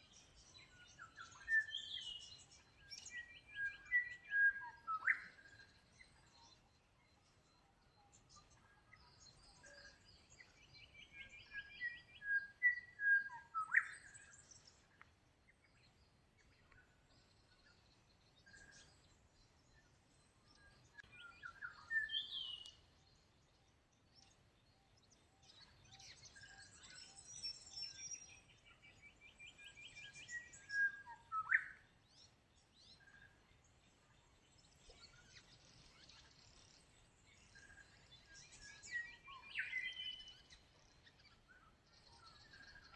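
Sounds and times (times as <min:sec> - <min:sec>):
birds singing: 0:00.0 - 0:42.9.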